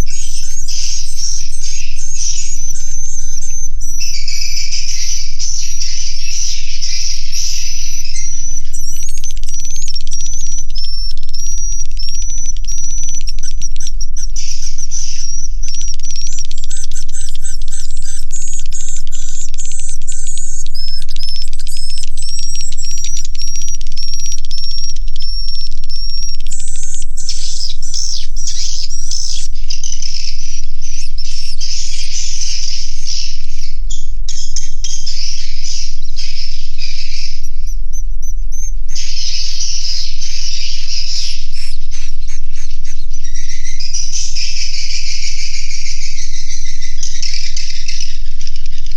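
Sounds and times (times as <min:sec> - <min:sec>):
swiftlets twittering and chirping: 0:00.0 - 0:48.3.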